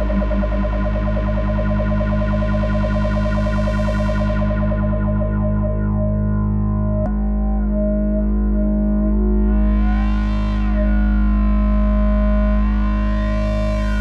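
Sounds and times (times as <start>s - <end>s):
synthesizer sustained note flanged: 0.0s - 14.0s.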